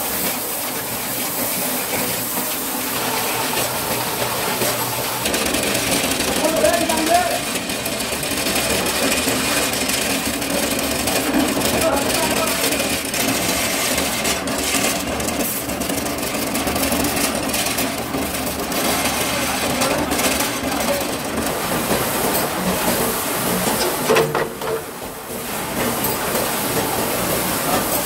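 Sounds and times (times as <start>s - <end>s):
rod-straightening machine running: 0.0s - 28.0s.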